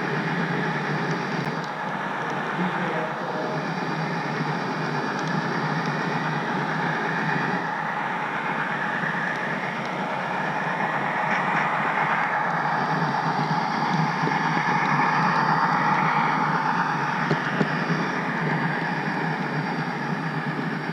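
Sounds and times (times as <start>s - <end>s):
thin high whine: 0.0s - 20.9s.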